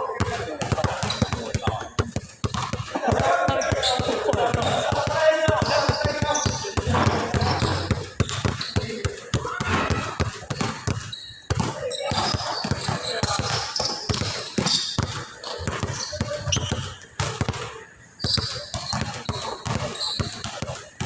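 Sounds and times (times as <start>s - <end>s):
people talking: 0.0s - 16.9s, 17.5s - 21.0s
basketballs bouncing on a court: 0.0s - 21.0s.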